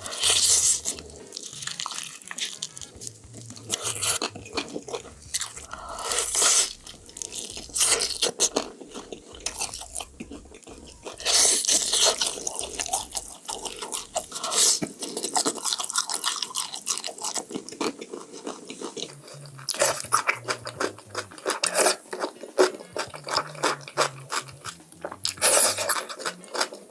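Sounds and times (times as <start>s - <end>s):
crunching fried chicken: 0.0s - 26.9s
wet chewing: 0.0s - 26.9s.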